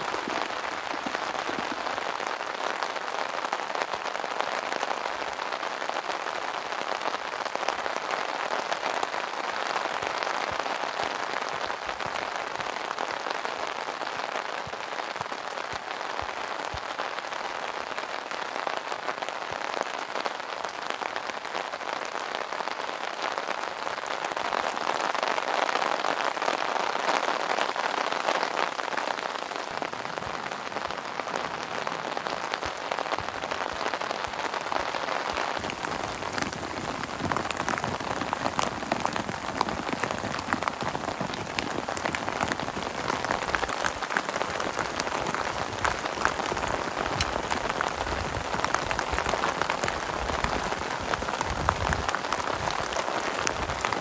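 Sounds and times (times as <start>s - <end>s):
heavy rain on a plastic tarp: 0.0s - 54.0s.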